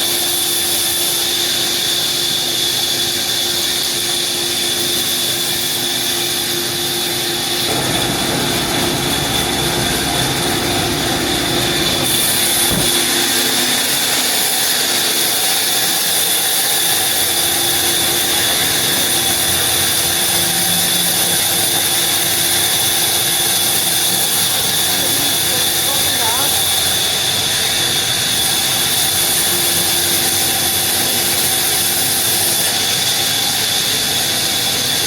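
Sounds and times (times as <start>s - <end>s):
sawmill machinery running: 0.0s - 35.0s.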